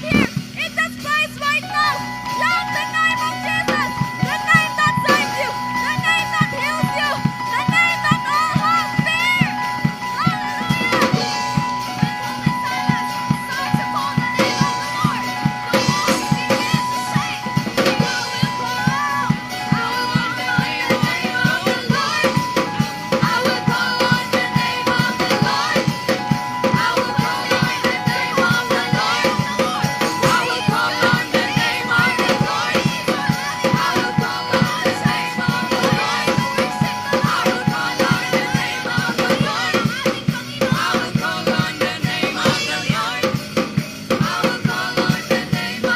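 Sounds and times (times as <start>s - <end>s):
drum kit beat: 0.0s - 45.9s
voices singing: 0.0s - 45.9s
held keyboard tones: 1.6s - 40.2s.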